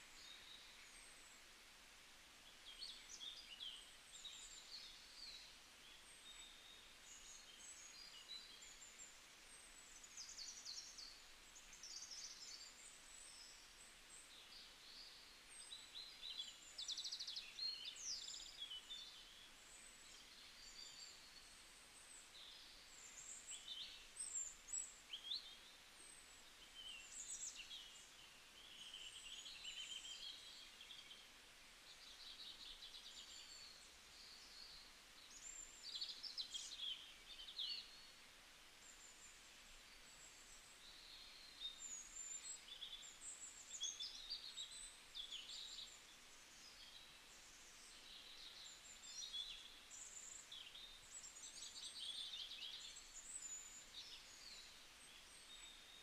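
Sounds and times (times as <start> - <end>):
light background hiss: 0.0 - 56.0
small birds chirping and trilling: 2.5 - 56.0.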